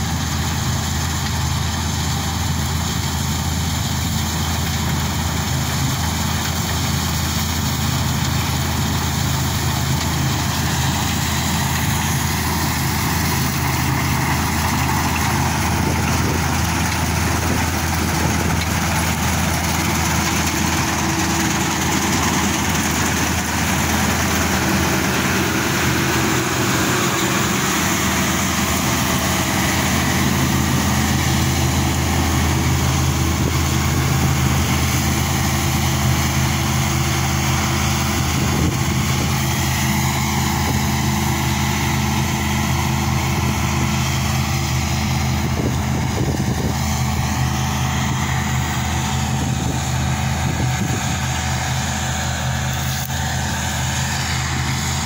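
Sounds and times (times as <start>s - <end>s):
road or wind noise: 0.0s - 55.0s
vehicle engine humming: 0.0s - 55.0s.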